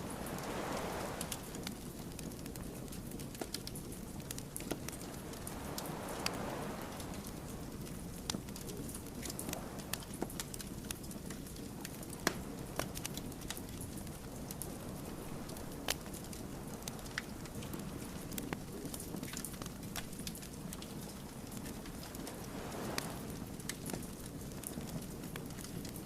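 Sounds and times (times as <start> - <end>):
wood fire crackling and popping: 0.1 - 26.0.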